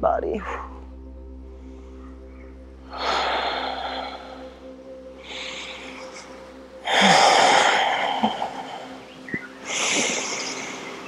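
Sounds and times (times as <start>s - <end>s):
woman breathing deeply: 1.5s - 11.0s.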